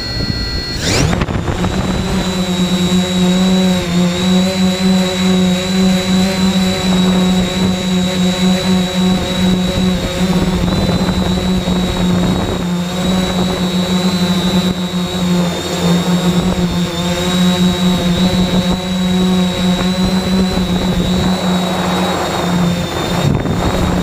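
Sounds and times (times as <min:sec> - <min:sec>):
drone motors buzzing: 0:00.0 - 0:24.0
thin high whine: 0:00.0 - 0:24.0.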